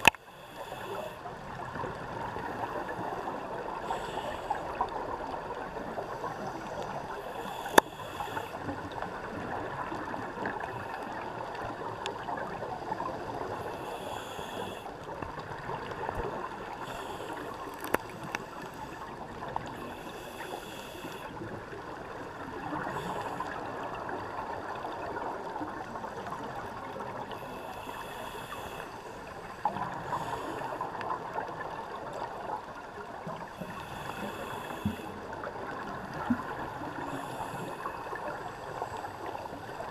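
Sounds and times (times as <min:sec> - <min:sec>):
scuba exhaled bubbles hissing: 0:00.0 - 0:32.3, 0:33.3 - 0:39.9
underwater water rush: 0:00.0 - 0:39.9.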